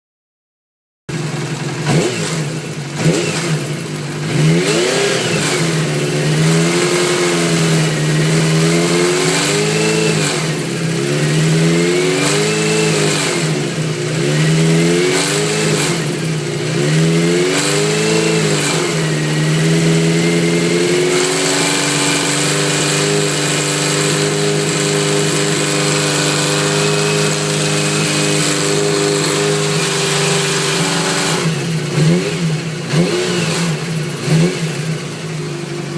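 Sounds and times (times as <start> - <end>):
motorcycle engine revving: 1.1 - 35.9.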